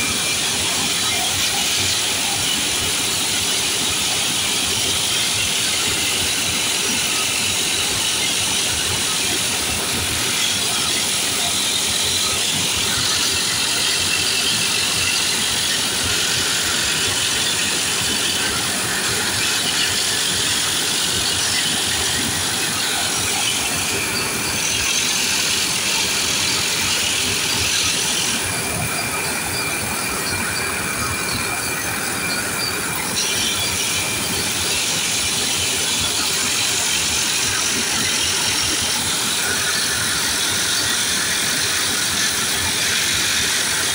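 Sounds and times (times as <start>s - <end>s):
engine-room machinery din: 0.0s - 43.9s
water jet gun hissing: 0.0s - 43.9s.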